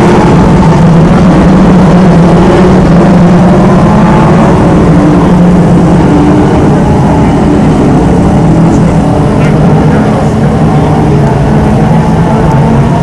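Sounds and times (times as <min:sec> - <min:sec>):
race car engines: 0:00.0 - 0:13.0.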